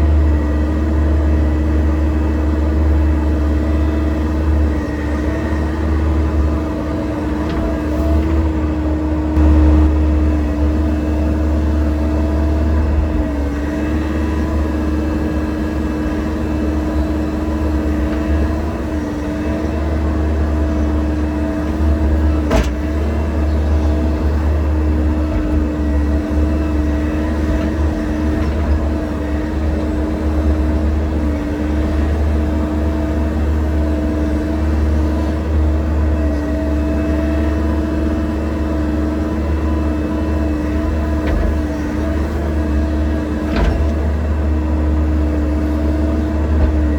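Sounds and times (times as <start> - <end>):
excavator diesel engine whining: 0.0 - 46.9.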